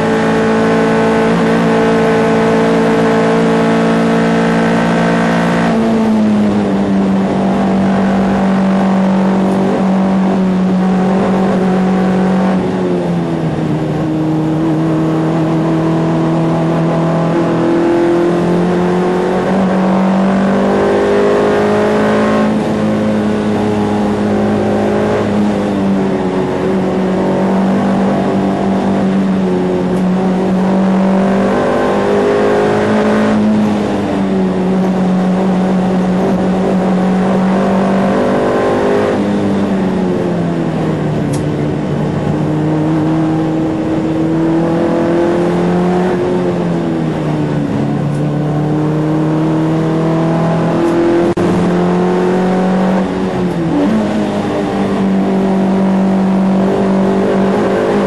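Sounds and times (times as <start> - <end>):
race car engine at high revs: 0.0 - 58.0.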